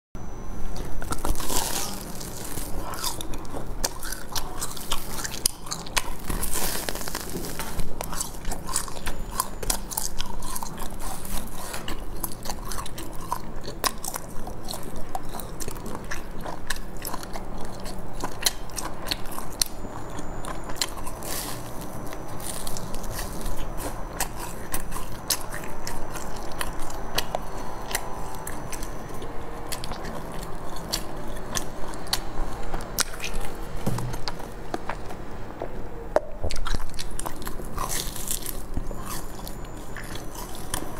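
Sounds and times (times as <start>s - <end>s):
crunching crusty bun: 0.8s - 35.2s, 36.5s - 40.9s
chewing: 0.8s - 40.9s.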